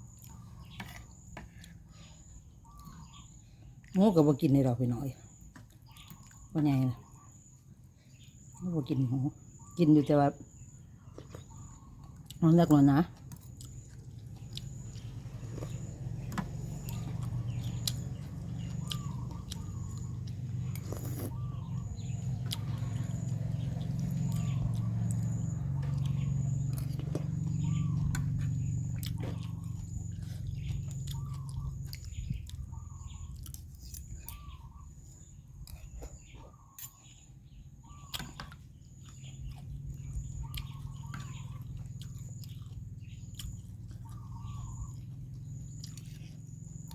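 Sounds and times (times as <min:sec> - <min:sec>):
bird chirping: 0:00.0 - 0:46.9
chewing and eating: 0:00.0 - 0:46.9.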